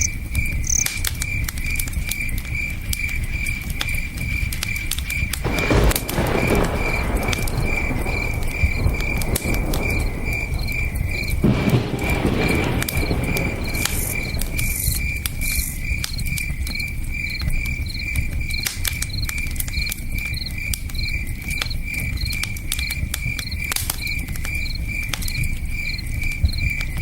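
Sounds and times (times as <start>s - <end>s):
campfire crackling and popping: 0.0s - 27.0s
crickets chirping: 0.0s - 27.0s.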